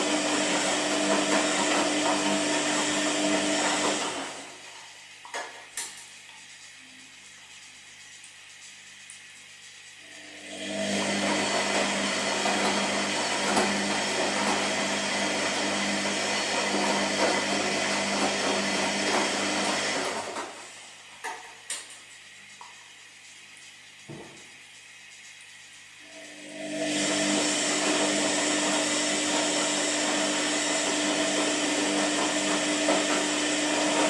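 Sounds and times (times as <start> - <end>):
washing machine whirring hum: 0.0 - 34.0.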